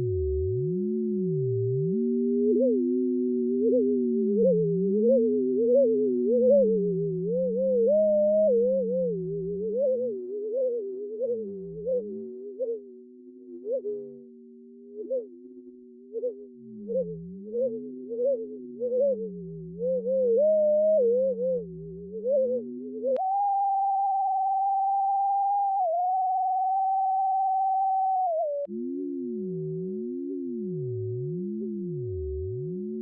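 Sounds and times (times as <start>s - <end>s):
computer-generated sine tones: 0.0s - 33.0s.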